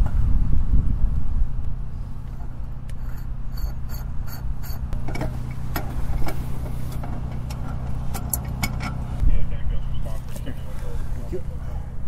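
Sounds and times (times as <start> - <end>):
diesel engine idling: 1.4 - 12.0.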